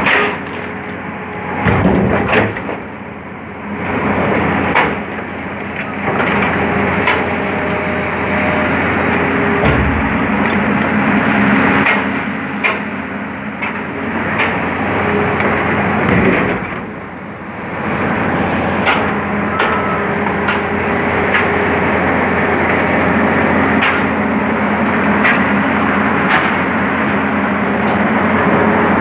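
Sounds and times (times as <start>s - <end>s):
diesel excavator engine: 0.0s - 29.0s.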